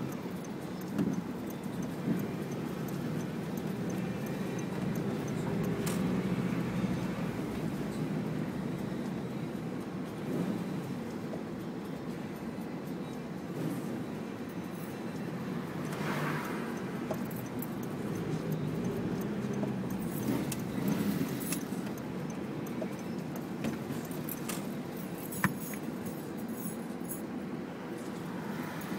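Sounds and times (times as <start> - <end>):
engine and tyre rumble: 0.0 - 28.9.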